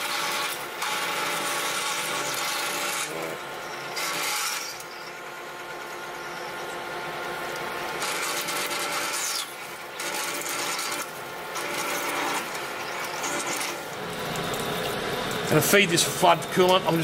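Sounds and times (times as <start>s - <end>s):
metal lathe whirring: 0.0s - 17.0s.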